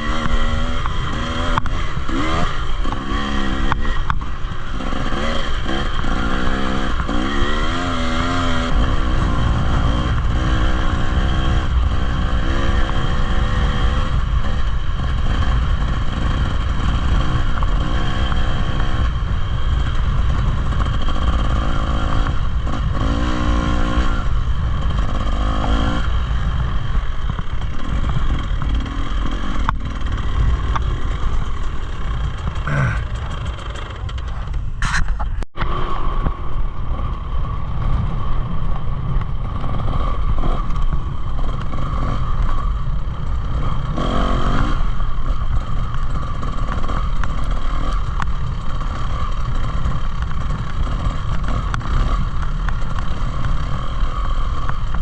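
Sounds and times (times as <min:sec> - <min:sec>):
constant low rumble: 0:00.0 - 0:55.0
dirt bike engine revving: 0:00.0 - 0:55.0.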